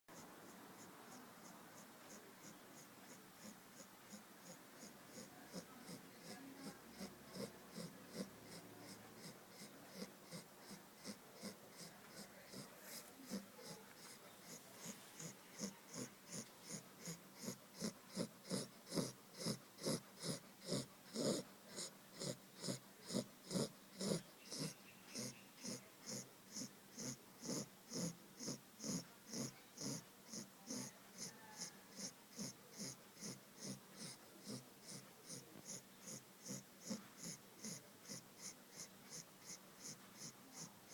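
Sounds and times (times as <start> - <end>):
puppy snoring softly: 0.1 - 40.9.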